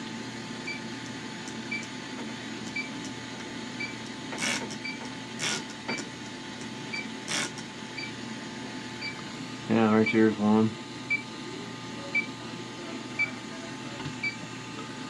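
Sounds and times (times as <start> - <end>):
refrigeration unit humming: 0.0 - 15.0.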